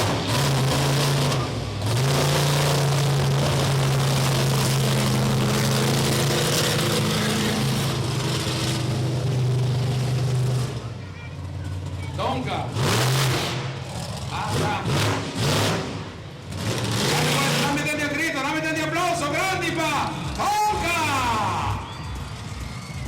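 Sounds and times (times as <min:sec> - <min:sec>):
truck engine revving high: 0:00.0 - 0:23.0.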